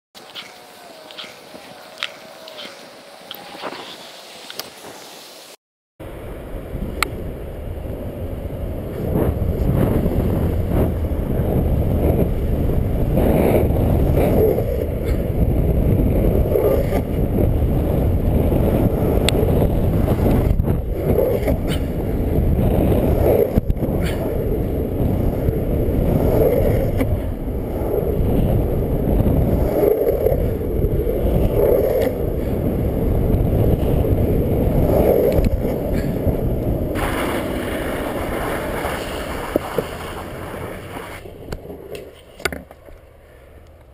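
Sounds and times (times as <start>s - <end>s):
skateboard wheels rumbling on asphalt: 0.2s - 43.9s
wind buffeting microphone: 6.0s - 43.0s.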